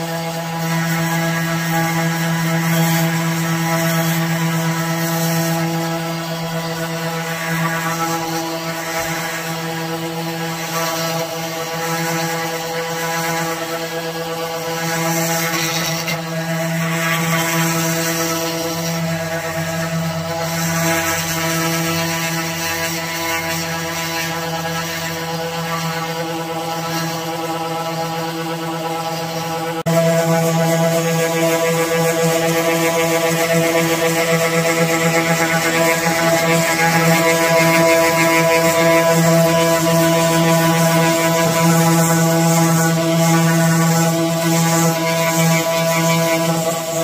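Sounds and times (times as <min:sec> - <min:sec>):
orbital sander on wood: 0:00.0 - 0:47.0.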